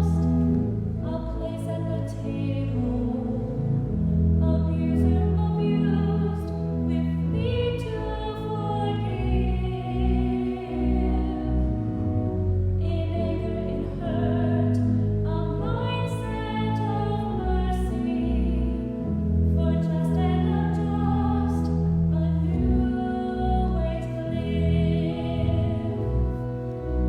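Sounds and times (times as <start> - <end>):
sustained bass: 0.0 - 27.0
church singing with accompaniment: 4.6 - 27.0.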